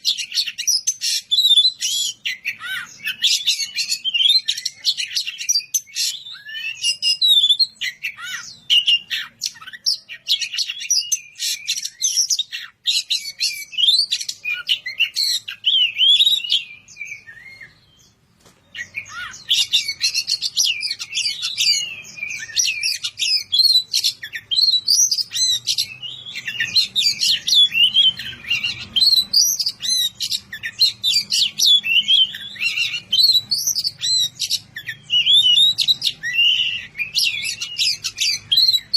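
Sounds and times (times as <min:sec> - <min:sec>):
bird singing chirps and whistles: 0:00.0 - 0:38.9.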